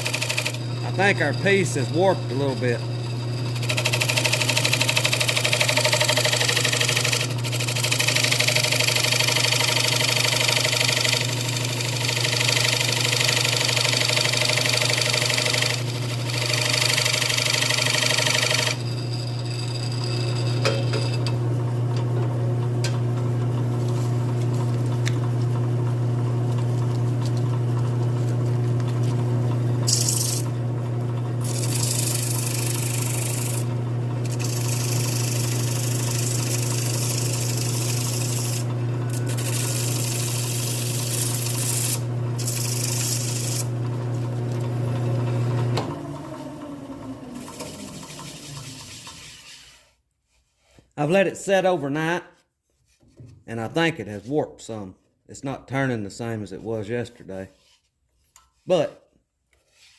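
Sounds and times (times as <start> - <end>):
wood lathe motor hum: 0.0 - 49.8.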